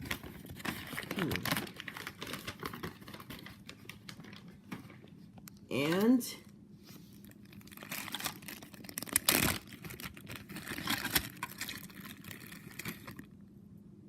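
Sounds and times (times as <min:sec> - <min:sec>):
newspaper rustling and crinkling: 0:00.0 - 0:05.2, 0:06.9 - 0:13.3.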